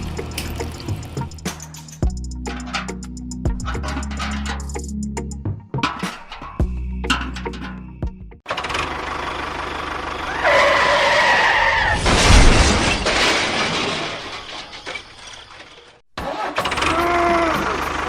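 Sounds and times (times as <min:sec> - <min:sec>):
vehicle noise: 0:00.0 - 0:18.0.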